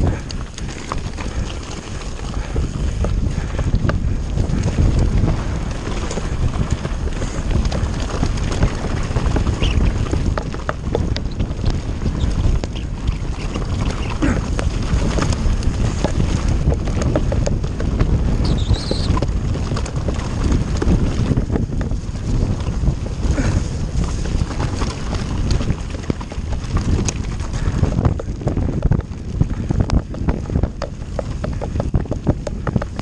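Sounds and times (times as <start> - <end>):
bike clattering over rocks: 0.0 - 33.0
tyres crunching over gravel: 0.0 - 33.0
wind buffeting microphone: 0.0 - 33.0.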